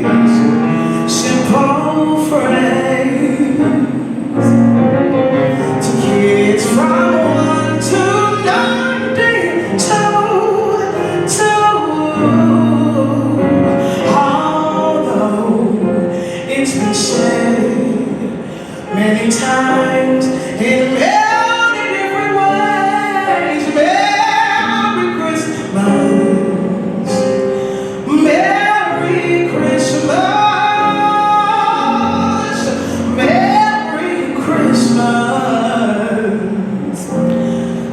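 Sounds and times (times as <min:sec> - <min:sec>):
instrumental accompaniment: 0:00.0 - 0:37.9.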